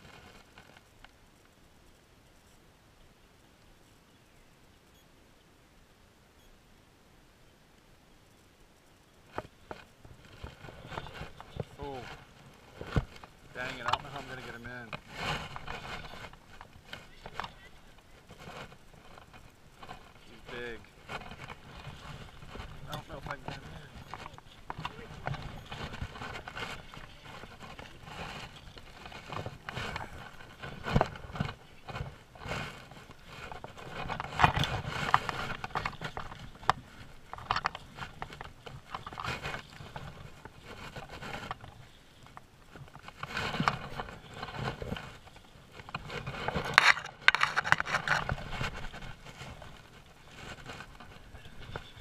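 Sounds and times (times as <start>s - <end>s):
knocks and rustling: 9.3s - 52.0s
brush scraping: 9.7s - 52.0s.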